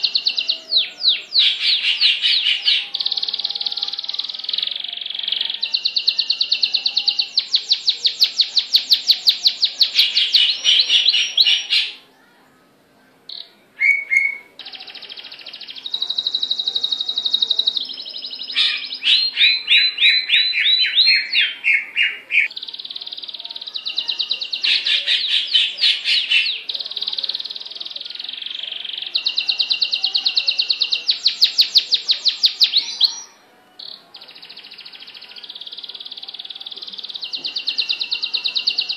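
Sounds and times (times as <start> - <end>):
songbird singing trills and whistles: 0.0 - 12.0, 13.3 - 38.9.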